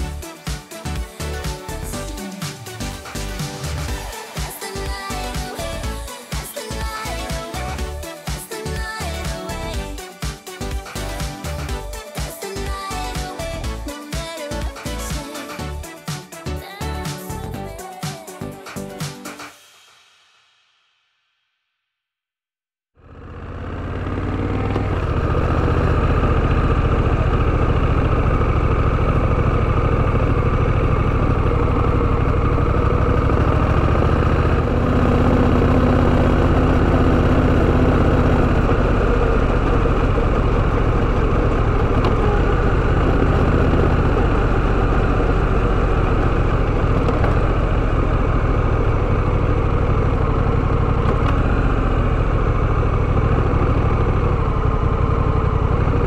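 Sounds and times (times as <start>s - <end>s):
motorcycle engine running: 1.0s - 15.3s, 23.0s - 56.0s.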